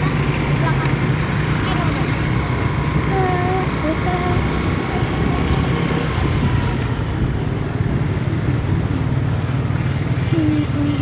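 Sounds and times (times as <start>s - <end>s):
diesel bus engine rumbling: 0.0s - 11.0s.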